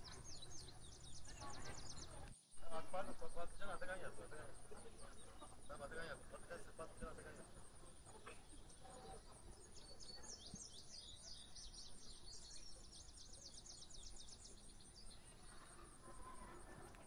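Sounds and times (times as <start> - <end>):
songbird chirping rapidly: 0.0 - 16.8
faint background noise: 0.0 - 17.0.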